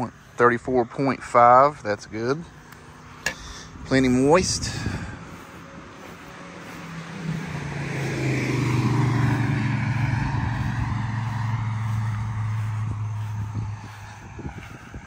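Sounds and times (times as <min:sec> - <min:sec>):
passing engine hum: 0:00.0 - 0:15.0.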